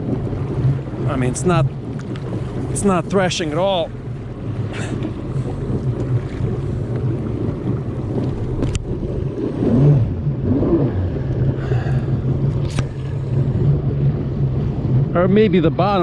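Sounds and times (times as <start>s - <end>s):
jet ski engine idling: 0.0s - 16.0s
wind buffeting microphone: 0.0s - 16.0s.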